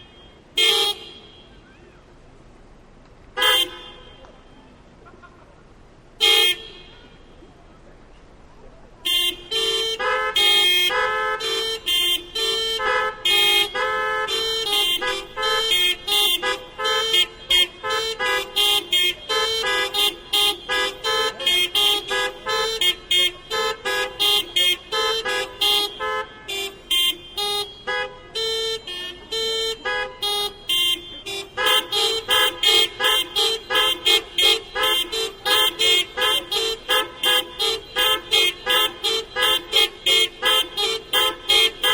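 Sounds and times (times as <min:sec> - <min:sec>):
car horns honking: 0:00.0 - 0:02.2, 0:03.1 - 0:08.3, 0:08.9 - 0:41.9.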